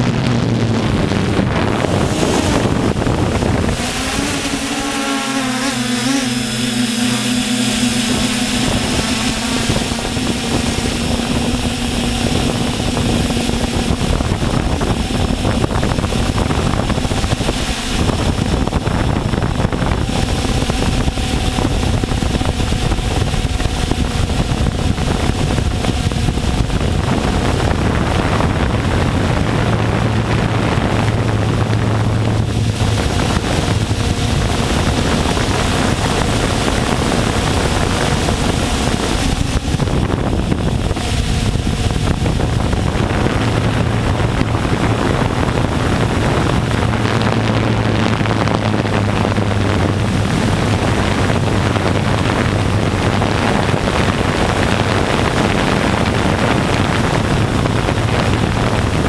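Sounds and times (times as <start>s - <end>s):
drone motors whirring: 0.0s - 59.0s
wind on microphone: 0.0s - 59.0s.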